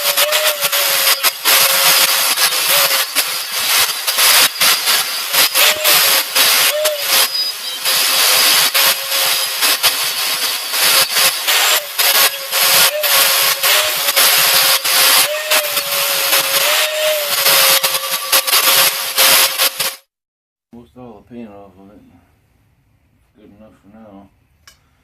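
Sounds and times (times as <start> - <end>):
power grinder grinding metal: 0.0 - 20.1.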